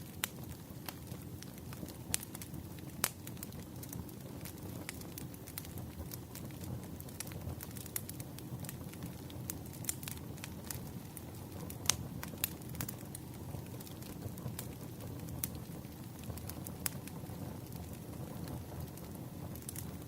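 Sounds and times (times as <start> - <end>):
low rumble of burning logs: 0.0 - 20.0
wood fire crackling and popping: 0.0 - 20.0.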